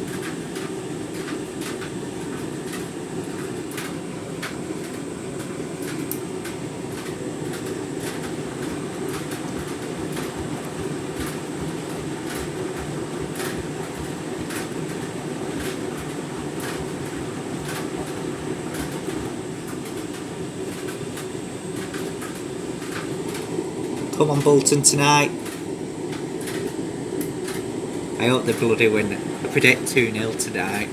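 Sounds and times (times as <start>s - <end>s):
washing machine drum rumble: 0.0s - 30.9s.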